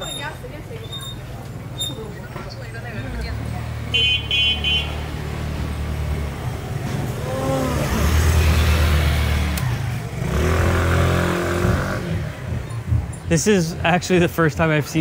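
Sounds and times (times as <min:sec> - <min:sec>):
scooter motors droning: 0:00.0 - 0:13.4.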